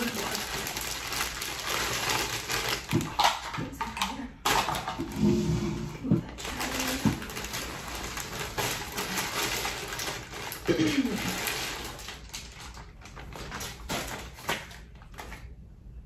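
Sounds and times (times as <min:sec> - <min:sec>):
plastic bag crinkling: 0:00.0 - 0:05.4, 0:06.2 - 0:15.6.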